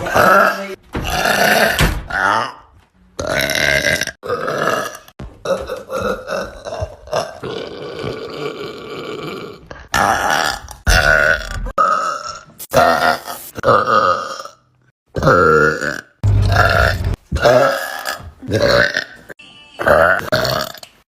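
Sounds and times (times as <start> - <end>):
woman burping loudly: 3.2 - 20.8.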